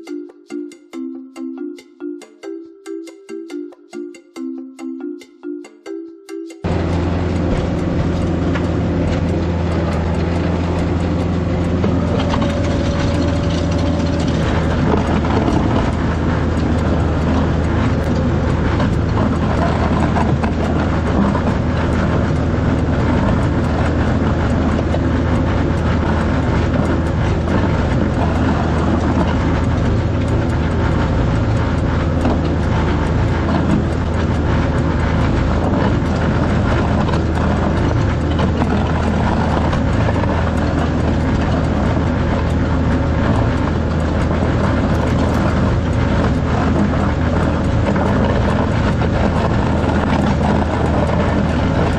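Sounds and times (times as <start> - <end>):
tractor engine running: 6.6 - 51.9.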